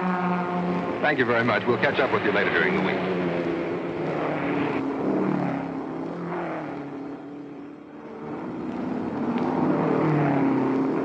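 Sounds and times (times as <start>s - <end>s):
racing car engines passing: 0.0s - 11.0s.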